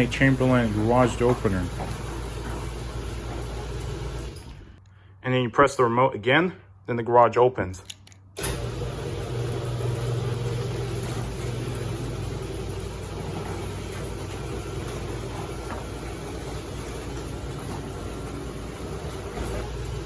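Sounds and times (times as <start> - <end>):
garage door opener motor hum: 0.0 - 4.8, 8.4 - 20.0.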